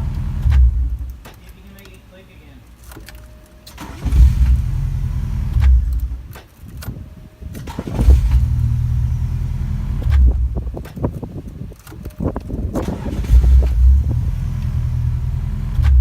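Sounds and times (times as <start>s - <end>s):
starter cranking engine: 2.8s - 16.0s.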